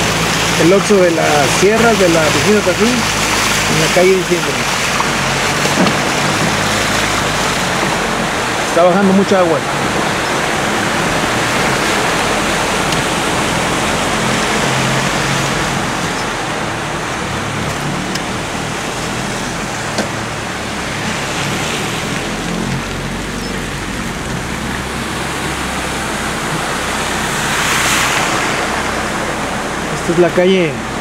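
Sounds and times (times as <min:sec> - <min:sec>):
car engine hum: 0:00.0 - 0:31.0
heavy rain: 0:00.0 - 0:31.0
tyres swishing through floodwater: 0:00.0 - 0:31.0.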